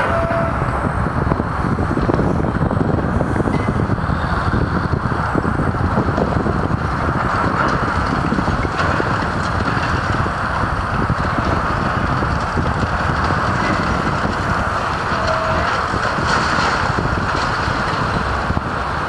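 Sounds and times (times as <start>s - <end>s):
highway traffic: 0.0s - 19.0s
wind buffeting microphone: 0.0s - 19.0s.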